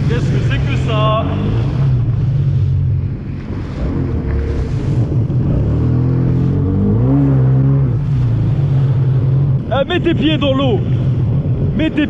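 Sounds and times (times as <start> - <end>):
jet ski engine running: 0.0 - 12.0
water rushing past hull: 0.0 - 12.0.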